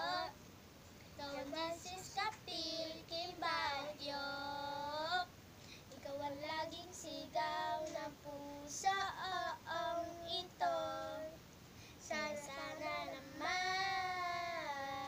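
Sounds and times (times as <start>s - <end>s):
girls singing together: 0.0s - 0.4s, 1.2s - 11.4s, 12.0s - 15.0s.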